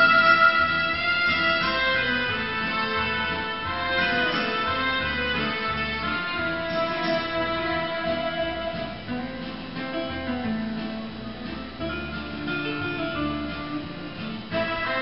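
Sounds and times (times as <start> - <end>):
plucked guitar: 0.0 - 15.0
steady bass line: 0.0 - 15.0.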